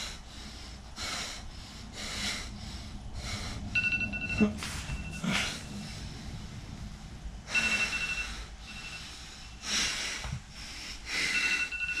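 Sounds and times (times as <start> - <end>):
man breathing hard: 0.0 - 3.8, 5.2 - 12.0.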